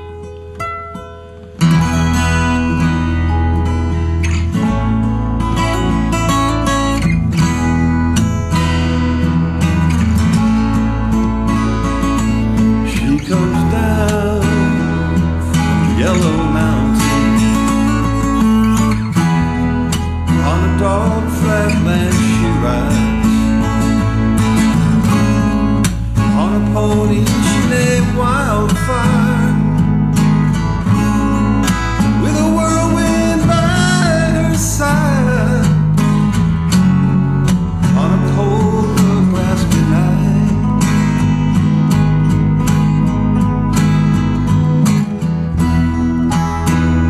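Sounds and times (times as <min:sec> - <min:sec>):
steady bass line: 0:00.0 - 0:47.0
strummed acoustic guitar: 0:00.0 - 0:47.0.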